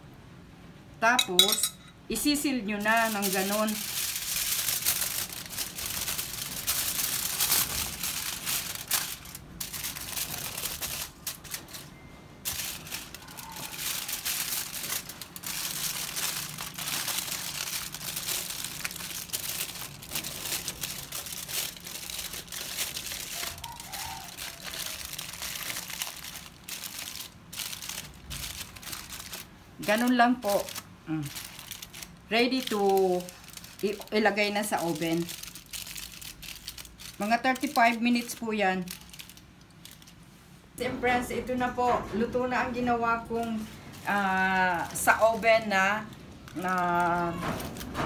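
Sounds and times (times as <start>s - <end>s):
aluminium foil crinkling: 1.4s - 40.4s, 41.2s - 48.0s.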